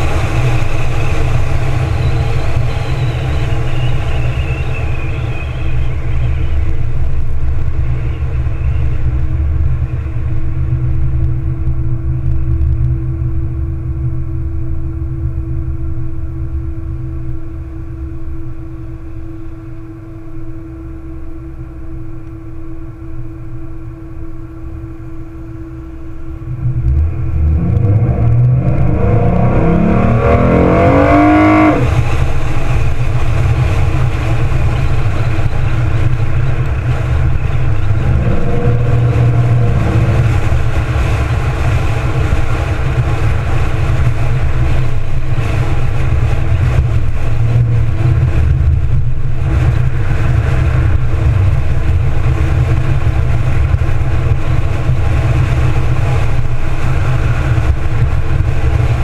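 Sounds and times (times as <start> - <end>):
car engine accelerating: 0.0 - 15.4, 25.3 - 59.0
wind and road noise: 0.0 - 59.0.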